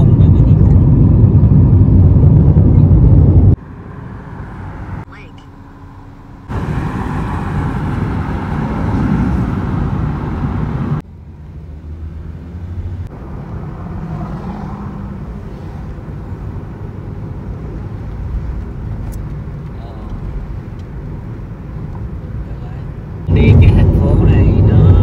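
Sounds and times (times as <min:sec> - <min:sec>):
engine and tyre hum: 0:00.0 - 0:25.0
wind and road noise: 0:00.0 - 0:25.0.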